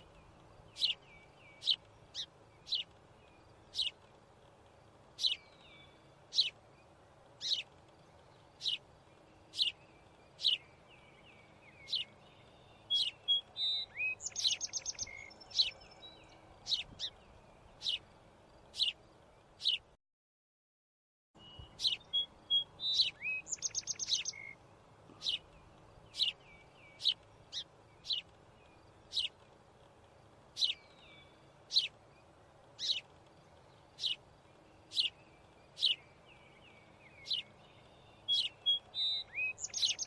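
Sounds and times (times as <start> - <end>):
bird chirping: 0.0 - 4.1, 5.2 - 19.9, 21.4 - 29.6, 30.4 - 40.0
faint steady hiss: 0.0 - 20.0, 21.4 - 40.0.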